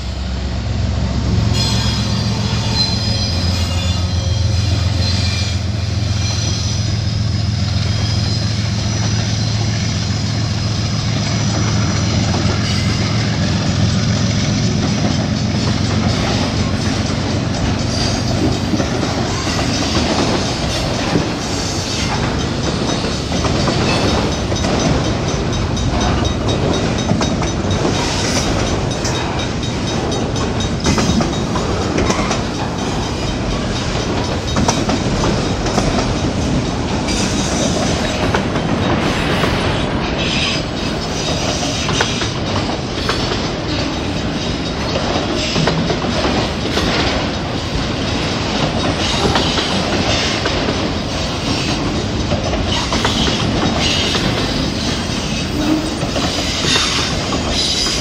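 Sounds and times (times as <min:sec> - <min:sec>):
diesel locomotive engine: 0:00.0 - 0:58.0
train wheels rumbling on rail: 0:00.0 - 0:58.0
wheels clanking over rail joints: 0:01.3 - 0:58.0.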